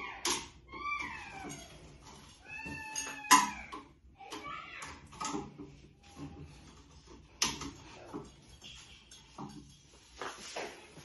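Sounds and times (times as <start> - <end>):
tubes squeaking: 0.0 - 10.9
tubes clicking into connectors: 0.1 - 10.0.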